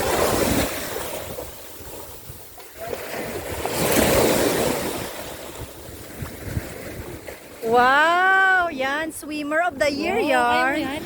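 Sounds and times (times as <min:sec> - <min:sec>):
sea waves washing ashore: 0:00.0 - 0:11.0
wind buffeting microphone: 0:00.0 - 0:11.0.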